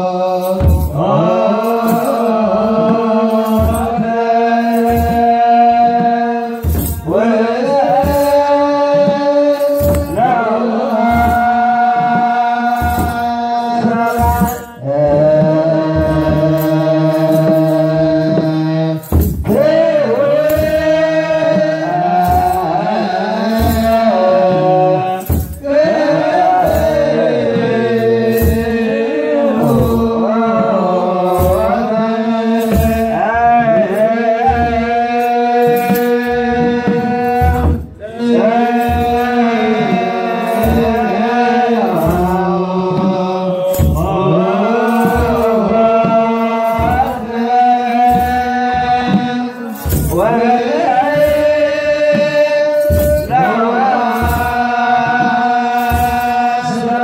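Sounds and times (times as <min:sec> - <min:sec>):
clergy chanting a hymn: 0:00.0 - 0:57.0
drum beating steadily: 0:00.0 - 0:57.0.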